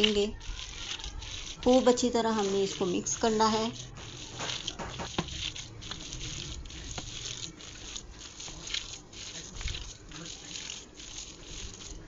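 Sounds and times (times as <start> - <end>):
hands squishing meat mixture: 0.0 - 12.0.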